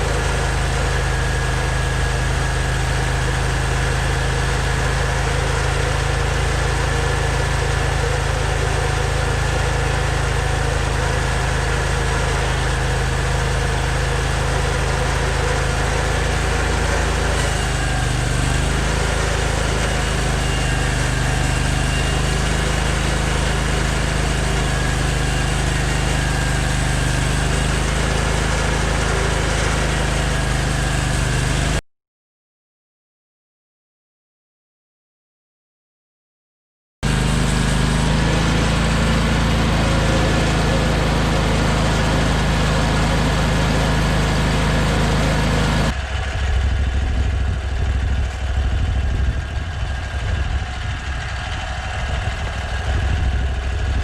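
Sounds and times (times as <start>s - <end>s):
sawmill engine milling a log: 0.0s - 31.8s, 37.0s - 54.0s.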